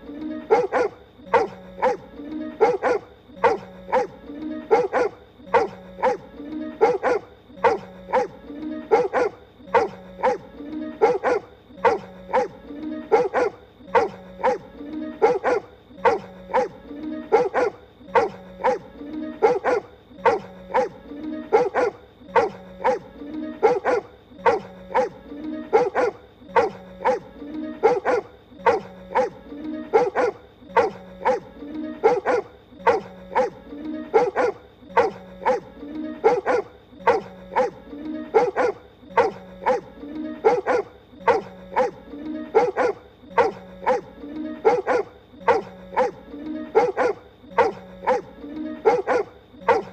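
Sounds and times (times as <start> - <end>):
background music: 0.0 - 49.9.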